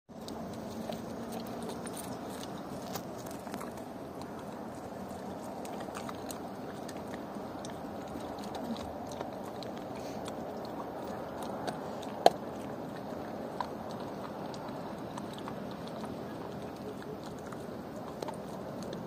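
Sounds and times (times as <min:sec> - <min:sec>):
dog crunching bones: 0:00.1 - 0:19.0.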